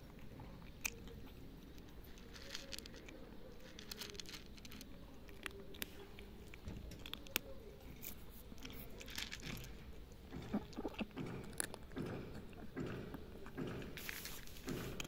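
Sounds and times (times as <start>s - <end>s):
cat crunching dry kibble: 0.0s - 15.0s.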